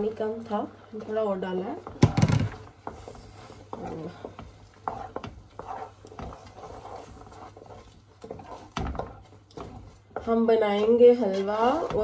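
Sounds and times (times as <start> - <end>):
hot mixture spluttering: 1.5 - 12.0
spoon scraping a metal pot: 1.8 - 12.0.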